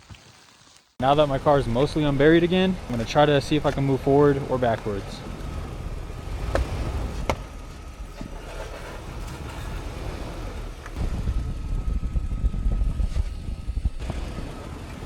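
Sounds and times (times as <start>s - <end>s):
car engine running: 1.2s - 15.0s.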